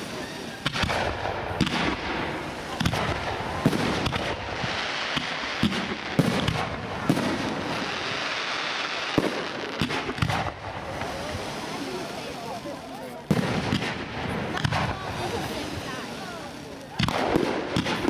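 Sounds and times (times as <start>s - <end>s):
continuous hiss: 0.0s - 18.0s
fireworks bangs: 0.0s - 18.0s.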